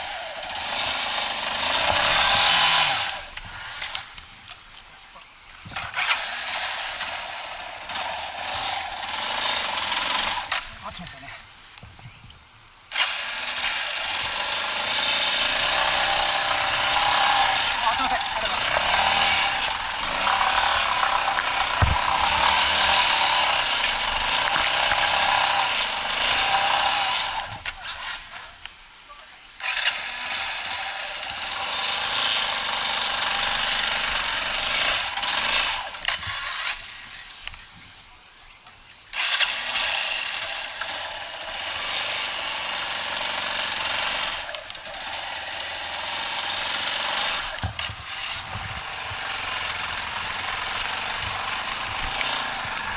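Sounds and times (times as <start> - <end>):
motorcycle engine revving: 0.0 - 4.4, 5.7 - 11.3, 12.9 - 28.4, 29.6 - 36.9, 39.1 - 52.9.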